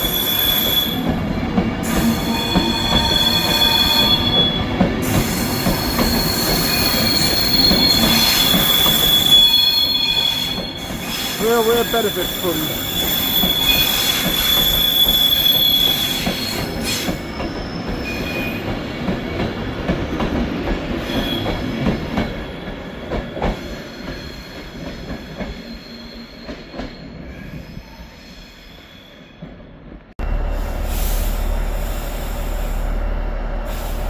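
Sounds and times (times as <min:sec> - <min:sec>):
train wheels squealing: 0:00.0 - 0:01.2, 0:01.8 - 0:19.5, 0:21.0 - 0:29.7.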